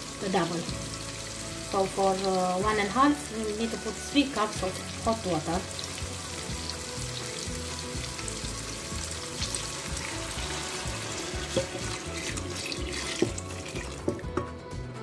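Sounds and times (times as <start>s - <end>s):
water pouring into a wok: 0.0s - 14.4s.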